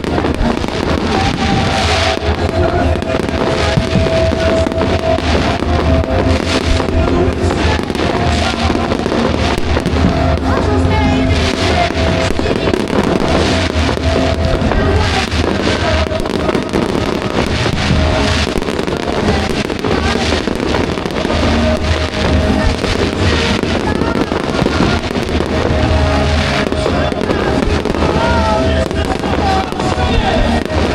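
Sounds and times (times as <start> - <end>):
fireworks bursting and crackling: 0.0 - 30.9
music with held notes: 0.0 - 30.9.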